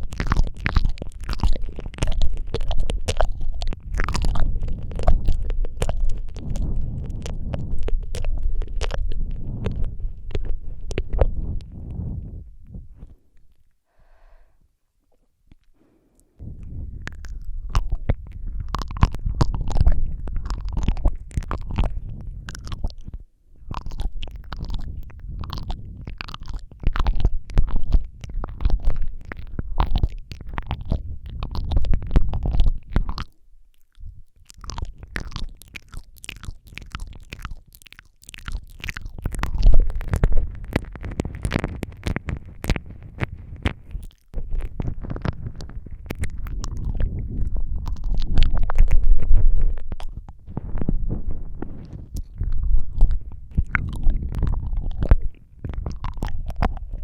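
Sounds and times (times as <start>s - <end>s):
low rumbling on microphone: 0.0s - 57.0s
wet mouth sounds: 0.0s - 57.0s.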